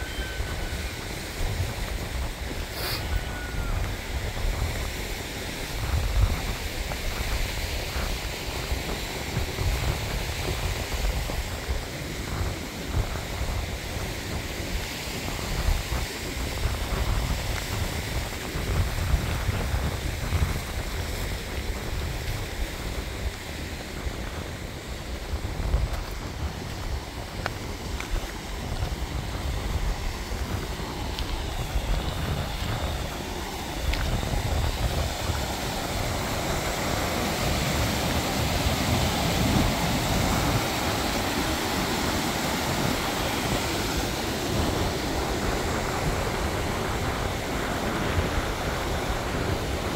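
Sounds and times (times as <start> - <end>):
stream rushing over rocks: 0.0 - 49.9
wind buffeting the microphone: 0.0 - 49.9.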